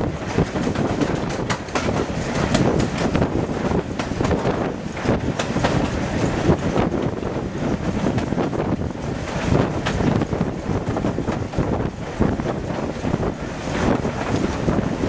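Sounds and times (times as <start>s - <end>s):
train wheels rumbling on rails: 0.0s - 15.0s
wind buffeting microphone: 0.0s - 15.0s.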